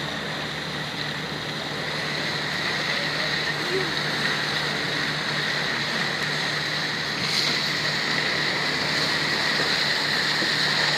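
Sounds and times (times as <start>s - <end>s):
boat engine running: 0.0s - 10.9s
water rushing along hull: 0.0s - 10.9s.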